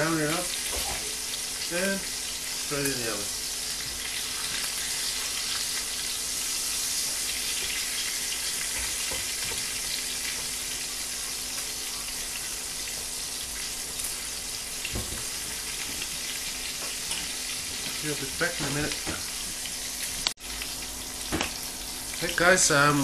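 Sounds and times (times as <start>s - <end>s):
duck sizzling in frying pan: 0.0s - 23.0s.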